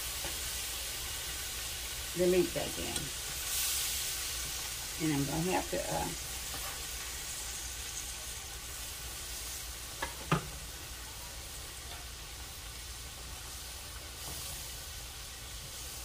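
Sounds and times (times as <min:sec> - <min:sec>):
gravy sizzling in skillet: 0:00.0 - 0:16.0.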